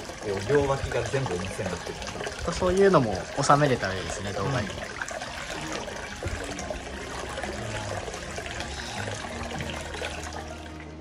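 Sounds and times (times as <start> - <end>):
water trickling into a basin: 0.0 - 11.0.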